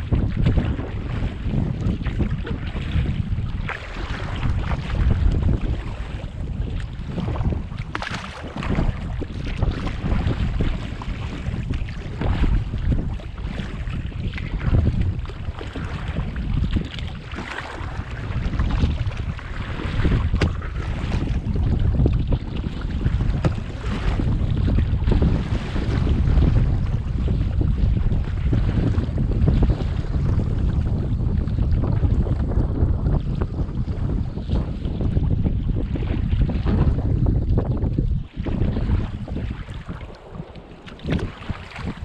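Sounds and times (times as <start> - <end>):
water splashing around kayak: 0.0 - 42.0
wind buffeting microphone: 0.0 - 42.0.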